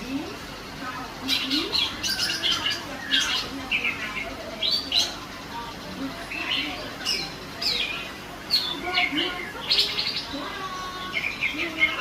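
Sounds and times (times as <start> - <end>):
bird high chirps and trills: 0.0 - 12.0.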